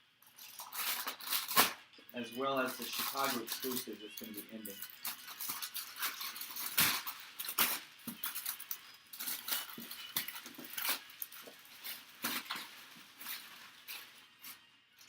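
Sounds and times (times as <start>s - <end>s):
cardboard tearing and rustling: 0.4s - 1.8s, 2.6s - 14.6s.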